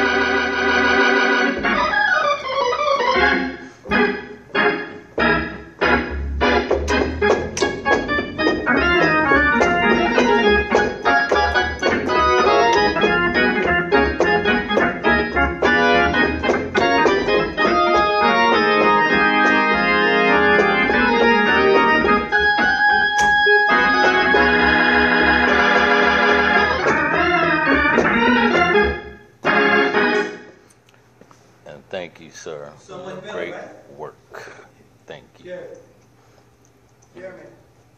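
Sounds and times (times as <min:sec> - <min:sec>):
organ chords through rotating speaker: 0:00.0 - 0:30.7.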